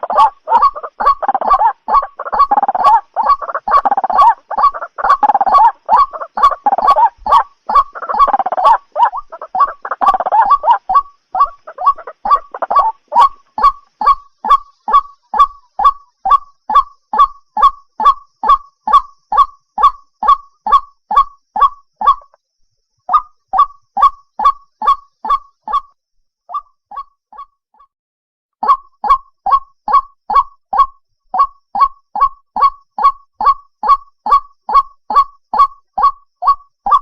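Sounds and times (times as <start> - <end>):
waterhen calling: 0.0 - 22.4, 23.1 - 25.8, 28.6 - 37.0.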